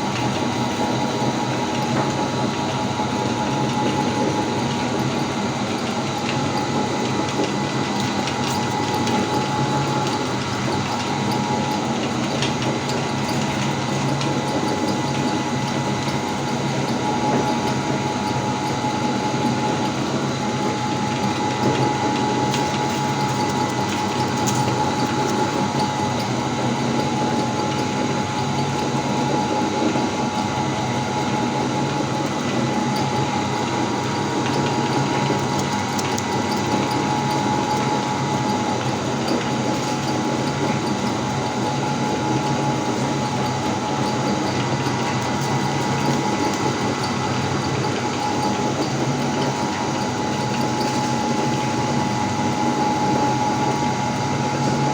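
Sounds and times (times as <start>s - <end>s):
electric meat grinder motor whine: 0.0s - 54.9s.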